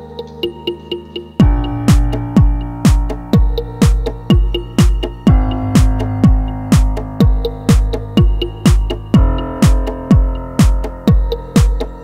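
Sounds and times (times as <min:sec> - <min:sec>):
electronic dance music: 0:00.0 - 0:12.0
deep kick drum: 0:01.4 - 0:12.0.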